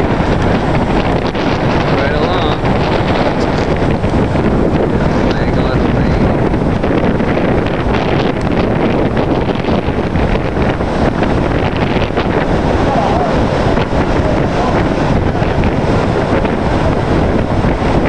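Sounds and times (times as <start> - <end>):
breaking surf: 0.0 - 18.0
wind buffeting the microphone: 0.0 - 18.0.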